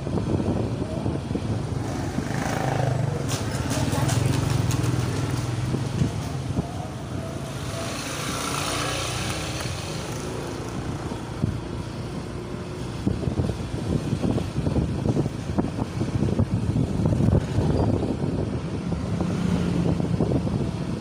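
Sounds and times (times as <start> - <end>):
engine and road hum: 0.0 - 21.0
motorbikes passing: 0.0 - 21.0
wind buffeting microphone: 0.0 - 21.0.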